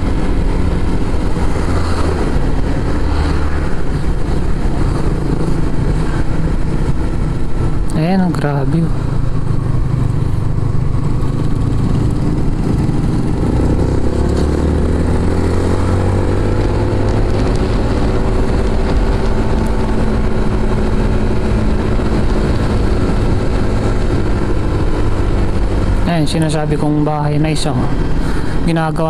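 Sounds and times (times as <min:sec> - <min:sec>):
motorcycle engine accelerating: 0:00.0 - 0:28.6
steady rushing noise: 0:00.0 - 0:29.0.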